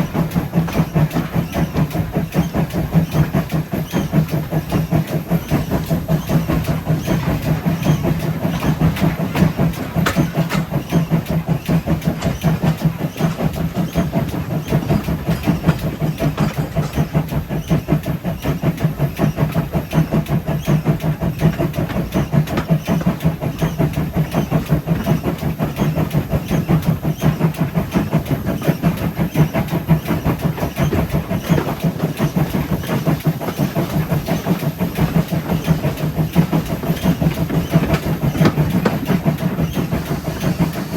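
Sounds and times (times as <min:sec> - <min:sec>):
steam locomotive beats: 0:00.0 - 0:40.9.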